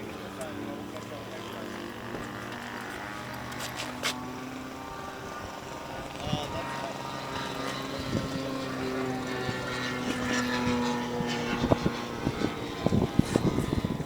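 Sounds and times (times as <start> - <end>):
model aircraft engine droning: 0.0 - 14.0.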